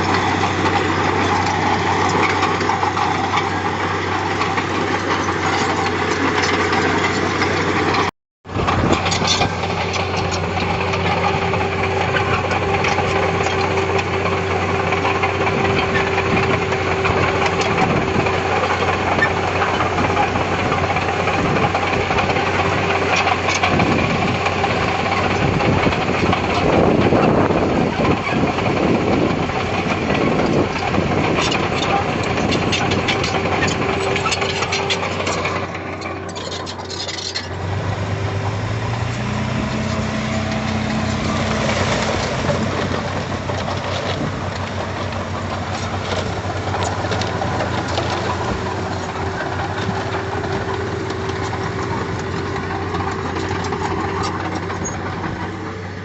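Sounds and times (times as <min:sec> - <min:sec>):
heavy machinery diesel engine: 0:00.0 - 0:56.0.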